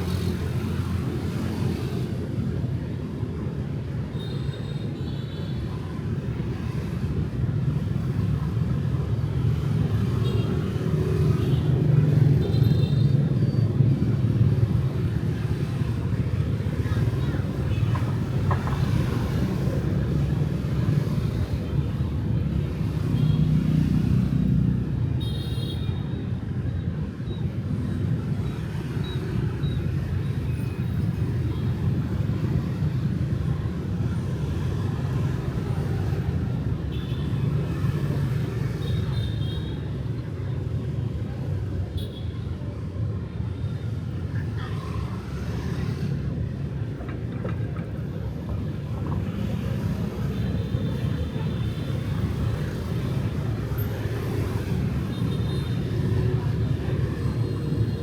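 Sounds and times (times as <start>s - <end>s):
passing cars and motorbikes: 0.0s - 58.0s.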